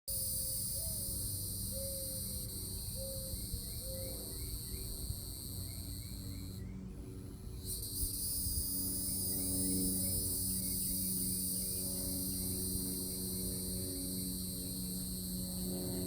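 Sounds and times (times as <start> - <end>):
insect chorus shrilling: 0.1 - 6.7, 7.6 - 16.0.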